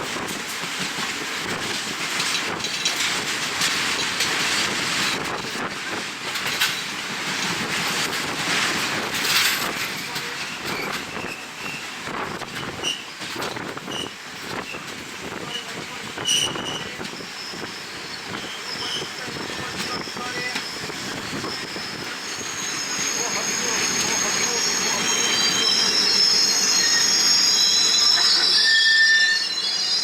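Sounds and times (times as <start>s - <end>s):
train carriage rumbling on rails: 0.0s - 30.0s.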